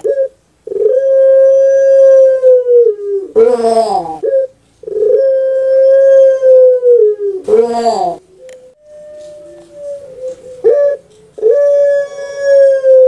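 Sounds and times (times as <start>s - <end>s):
dove cooing: 0.0s - 13.0s
rough falling dove call: 0.0s - 13.0s.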